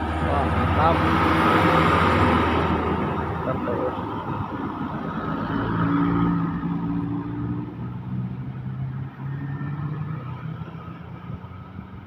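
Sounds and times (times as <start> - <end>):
heavy vehicle engine passing: 0.0 - 12.0.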